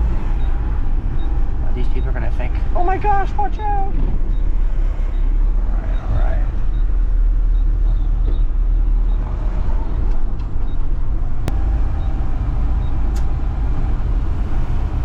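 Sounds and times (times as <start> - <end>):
garbage truck engine rumbling: 0.0 - 15.0.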